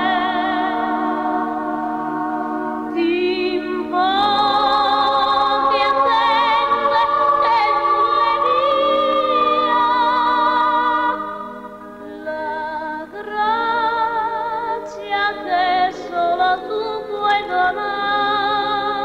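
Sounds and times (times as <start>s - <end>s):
higher singing voice: 0.0s - 19.0s
singing with vibrato: 0.0s - 19.0s.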